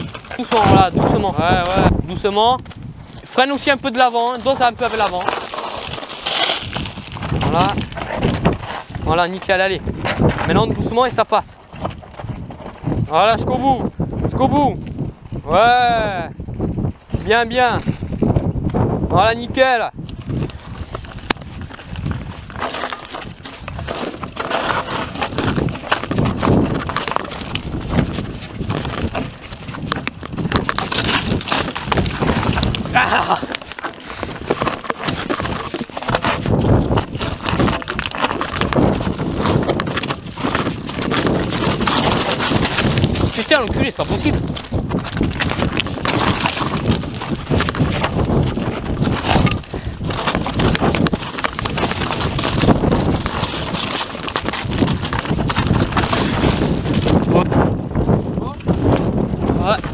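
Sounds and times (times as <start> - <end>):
bike clattering over rubble: 0.0 - 13.9, 16.4 - 18.6, 20.1 - 59.9
bike tyres crunching on rocks: 0.0 - 59.9
wind rumble on microphone: 0.0 - 59.9.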